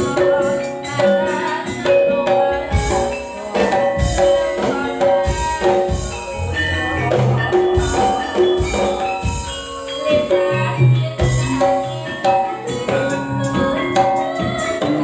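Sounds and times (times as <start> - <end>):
metal-keyed melody: 0.0 - 15.0
steady drum beat: 0.0 - 15.0.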